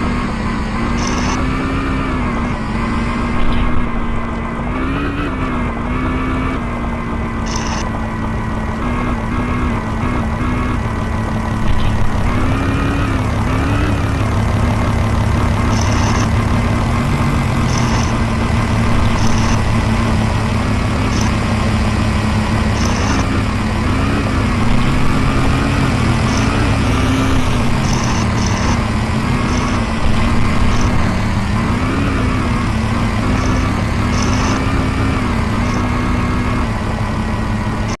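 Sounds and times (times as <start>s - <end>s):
motorbike engine running: 0.0s - 38.0s.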